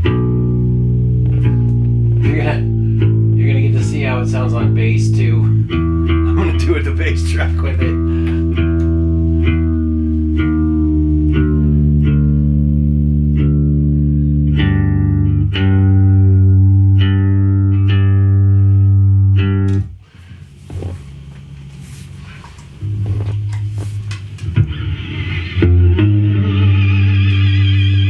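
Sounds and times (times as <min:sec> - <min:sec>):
electric bass guitar notes: 0:00.0 - 0:28.0.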